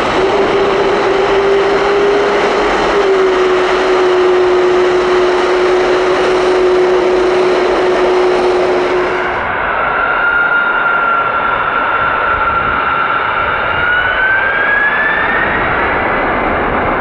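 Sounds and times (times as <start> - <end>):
jet engine whine: 0.0 - 17.0
jet engines roaring: 0.0 - 17.0.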